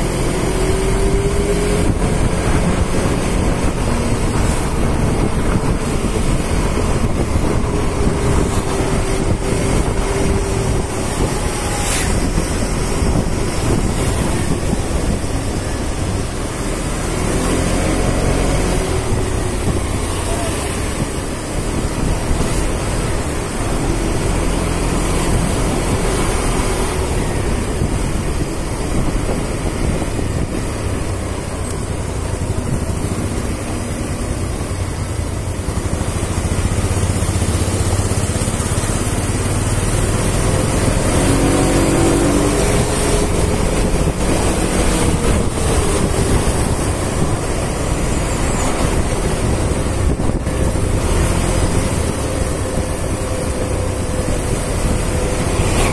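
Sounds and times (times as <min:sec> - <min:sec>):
motor scooter riding: 0:00.0 - 0:55.9.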